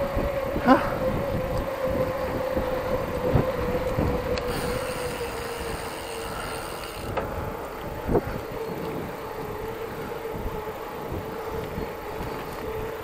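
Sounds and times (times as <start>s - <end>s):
bike tyres humming on pavement: 0.0s - 13.0s
wind rumbling on microphone: 0.0s - 13.0s.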